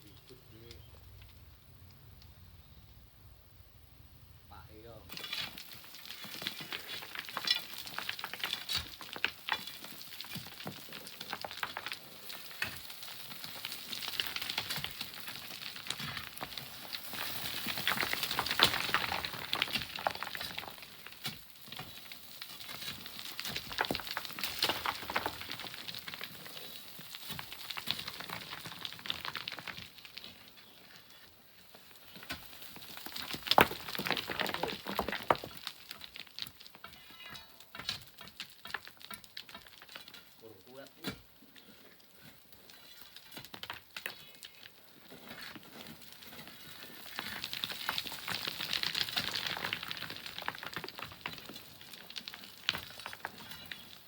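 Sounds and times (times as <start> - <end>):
sand and pebbles sliding: 4.7 - 54.0.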